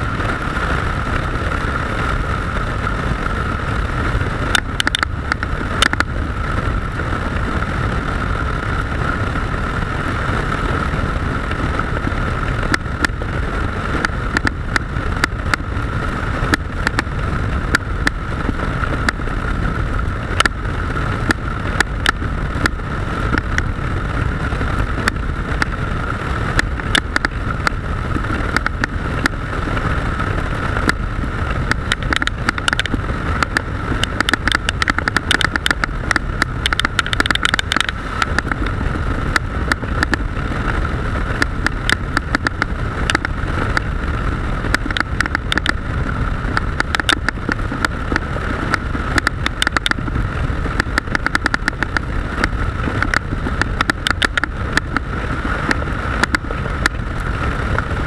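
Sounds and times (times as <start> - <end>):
motorcycle engine: 0.0 - 58.0
sharp crackles: 0.0 - 58.0.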